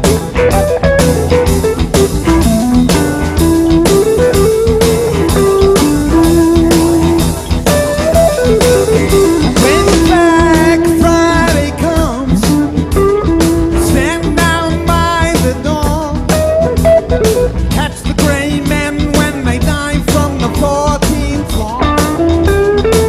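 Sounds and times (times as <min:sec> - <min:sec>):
rock music with electric guitar: 0:00.0 - 0:23.0.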